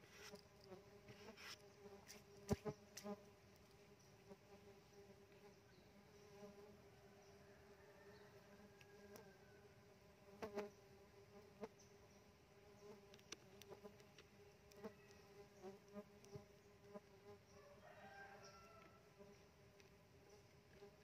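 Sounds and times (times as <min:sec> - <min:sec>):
bees buzzing hum: 0:00.0 - 0:17.6.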